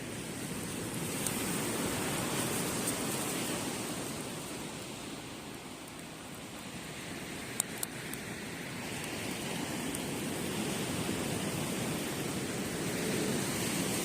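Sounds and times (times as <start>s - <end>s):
campfire crackles: 0.0s - 14.0s
sea waves surging up beach: 0.0s - 14.0s.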